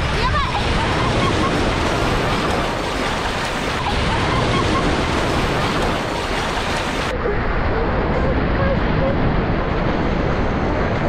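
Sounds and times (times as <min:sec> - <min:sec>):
surf washing and foaming: 0:00.0 - 0:11.0
wind on microphone: 0:00.0 - 0:11.0.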